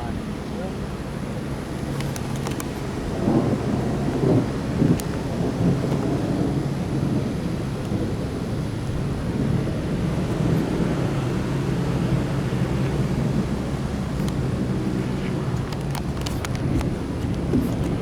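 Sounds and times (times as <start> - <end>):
thunder rumbling: 0.0 - 18.0
thunderstorm rush: 0.0 - 18.0.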